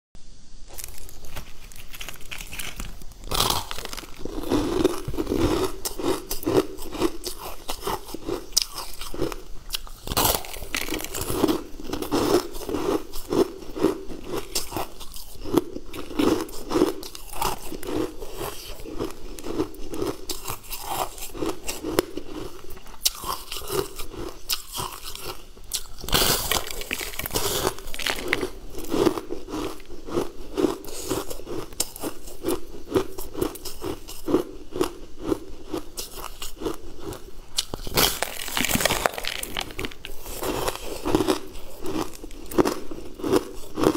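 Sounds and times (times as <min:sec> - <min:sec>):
crunching bites and chewing: 0:00.7 - 0:43.9.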